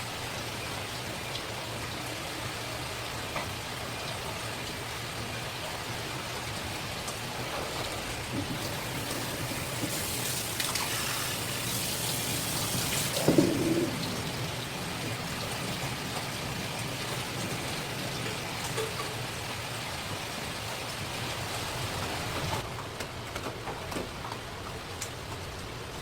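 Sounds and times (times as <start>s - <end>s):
running water: 0.5s - 22.6s.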